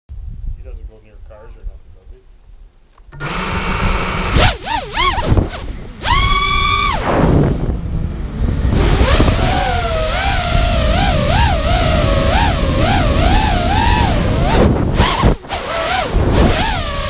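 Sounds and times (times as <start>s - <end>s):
rushing wind: 0.1s - 17.0s
drone motors whining: 3.1s - 17.0s.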